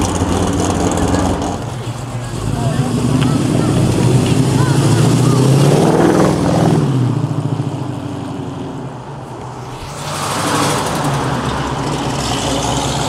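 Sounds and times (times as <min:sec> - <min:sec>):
car engines passing by: 0:00.0 - 0:13.0.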